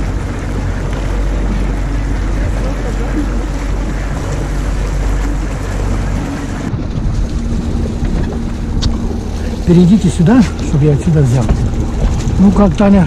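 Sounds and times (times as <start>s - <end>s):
outboard motor running: 0.0s - 13.0s
water rushing past hull: 0.0s - 13.0s
wind on microphone: 0.0s - 13.0s.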